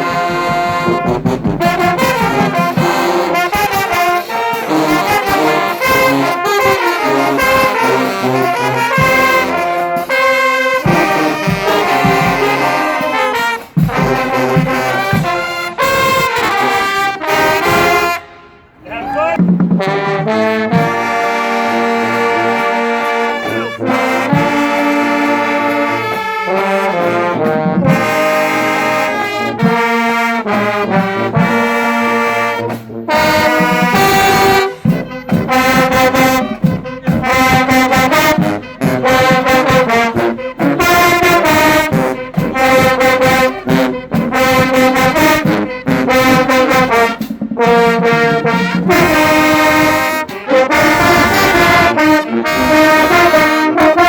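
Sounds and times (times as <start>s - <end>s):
brass band playing chords: 0.0s - 54.0s.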